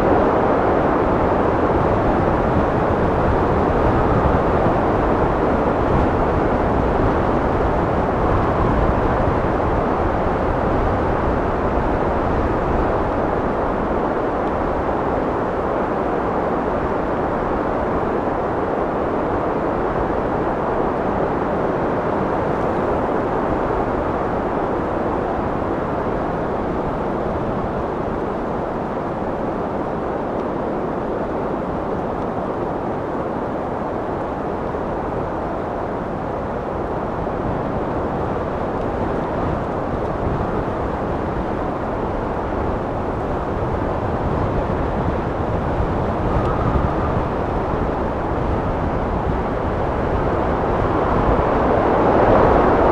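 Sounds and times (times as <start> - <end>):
wind blowing steadily: 0.0 - 52.9.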